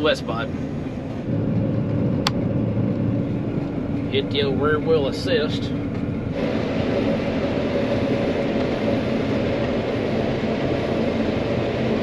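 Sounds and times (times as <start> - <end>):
combine harvester engine and machinery: 0.0 - 12.0.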